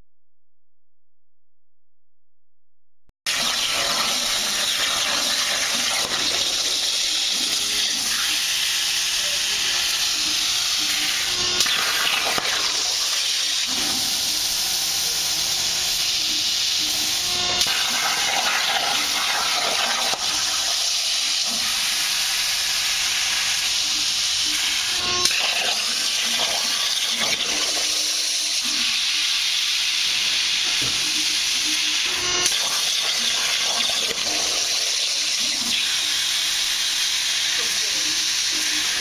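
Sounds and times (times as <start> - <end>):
plasma torch hissing: 3.3 - 39.0.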